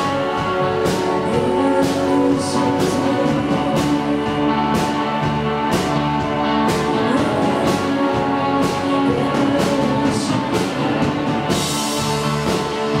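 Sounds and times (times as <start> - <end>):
electric guitars sustained chords: 0.0 - 13.0.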